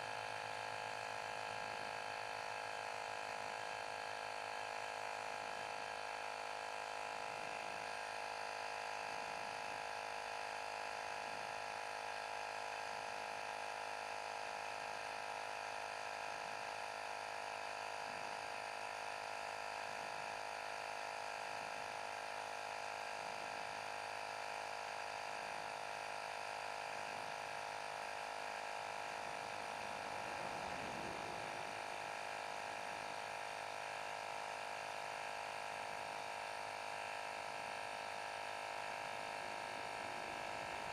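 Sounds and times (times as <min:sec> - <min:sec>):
small electric compressor humming: 0:00.0 - 0:40.9.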